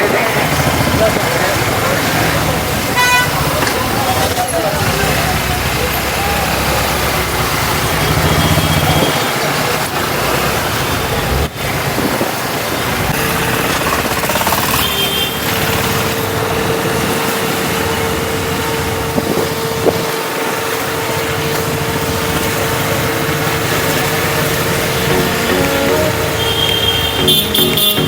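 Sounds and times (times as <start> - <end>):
vehicle road and engine noise: 0.0 - 25.1.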